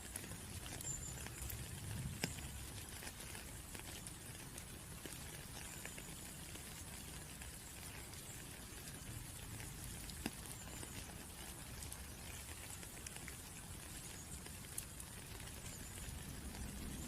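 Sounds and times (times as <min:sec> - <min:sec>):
rain hiss: 0:00.0 - 0:17.0
raindrops tapping: 0:00.0 - 0:17.0.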